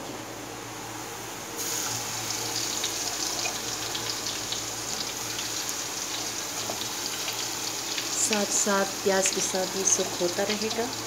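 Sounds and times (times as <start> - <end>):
paste sizzling in hot oil: 1.6 - 11.0.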